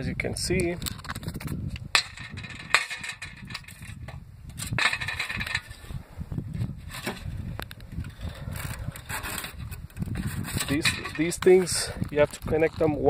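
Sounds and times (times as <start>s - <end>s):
rattling and scraping: 0.5s - 13.0s.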